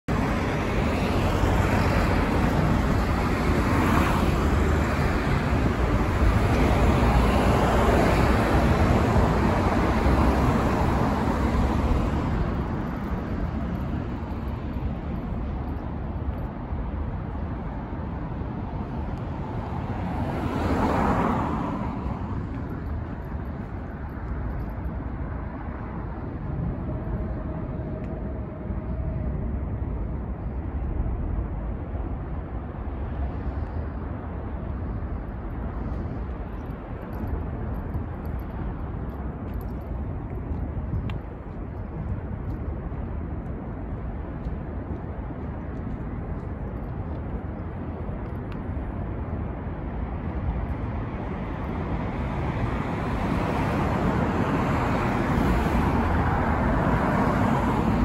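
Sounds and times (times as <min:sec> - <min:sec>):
city road traffic: 0:00.0 - 0:58.0.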